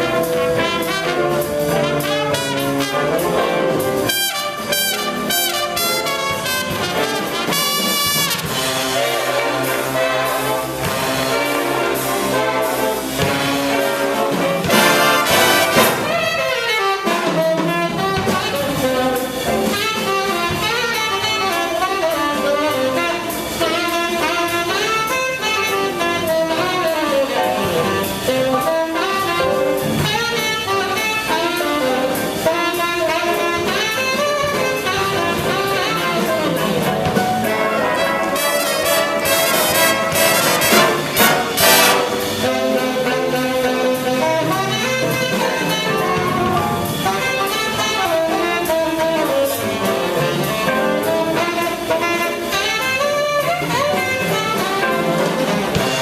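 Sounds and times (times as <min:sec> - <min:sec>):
brass section: 0:00.0 - 0:56.0
rhythm section: 0:00.0 - 0:56.0
saxophones: 0:00.0 - 0:56.0.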